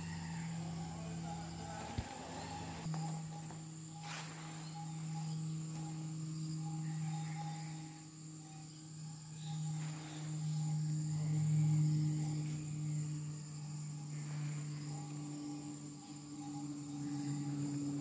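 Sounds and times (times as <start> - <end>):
insects chirping: 0.0 - 18.0
steady low hum: 0.0 - 18.0.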